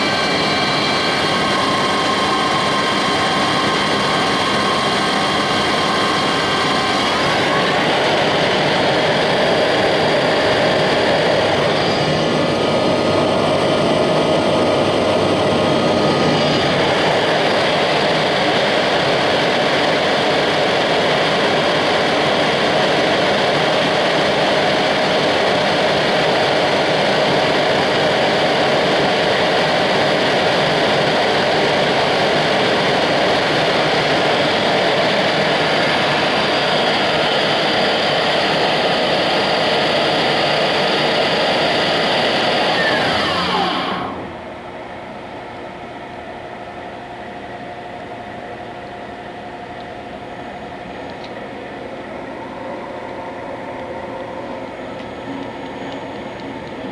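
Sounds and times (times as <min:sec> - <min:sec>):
lathe motor hum and whine: 0:00.0 - 0:56.9.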